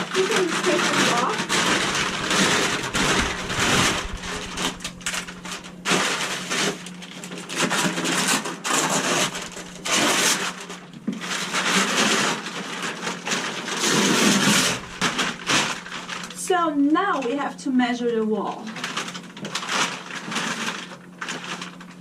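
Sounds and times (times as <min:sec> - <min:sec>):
household items rustling and clattering: 0:00.0 - 0:17.4, 0:18.5 - 0:22.0.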